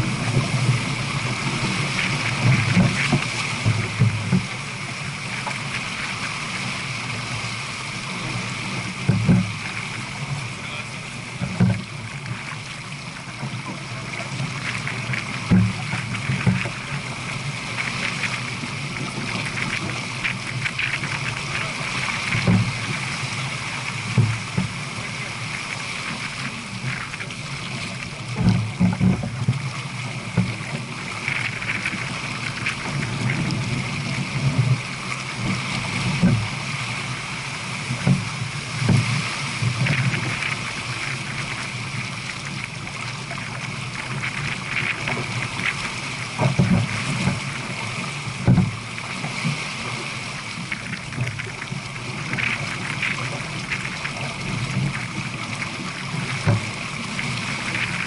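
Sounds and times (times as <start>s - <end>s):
low thumps on hull: 0.0s - 58.0s
water rushing along boat hull: 0.0s - 58.0s.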